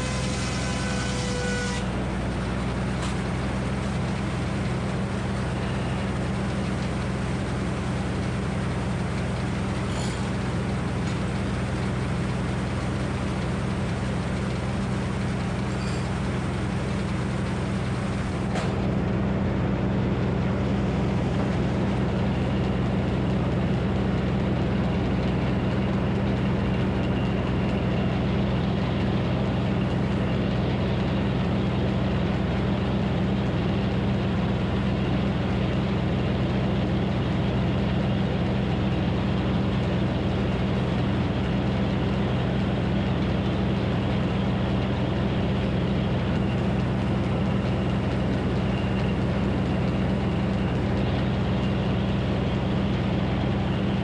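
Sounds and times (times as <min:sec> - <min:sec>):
engine running a sawmill: 0:00.0 - 0:54.0.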